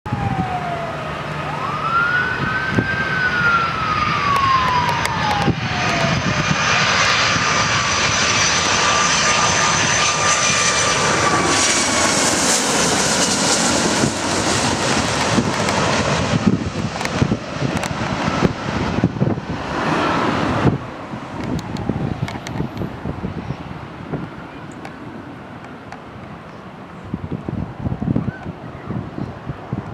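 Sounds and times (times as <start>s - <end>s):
jet airliner whine: 0.1s - 29.9s
jet engine rushing: 0.1s - 29.9s.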